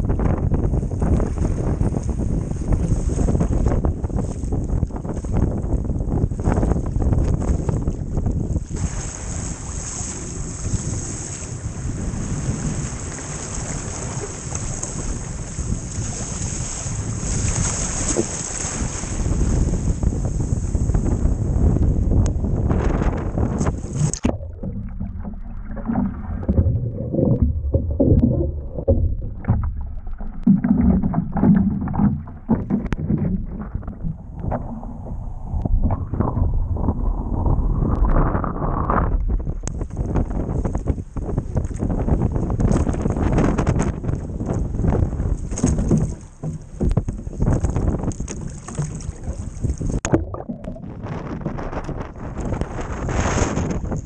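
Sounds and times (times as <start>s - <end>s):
choppy water splashing: 0.0s - 54.0s
wind buffeting microphone: 0.0s - 54.0s.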